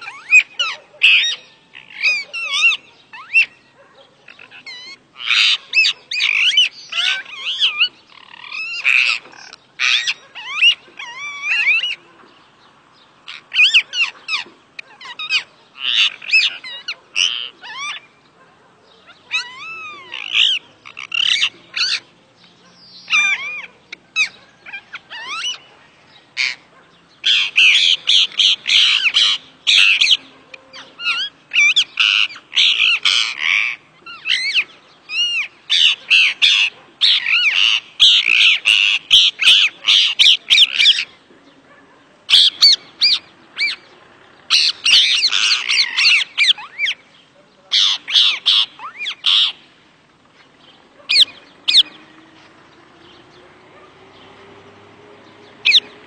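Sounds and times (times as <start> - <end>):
parakeets screeching: 0.0 - 12.1, 13.2 - 18.3, 19.0 - 56.0.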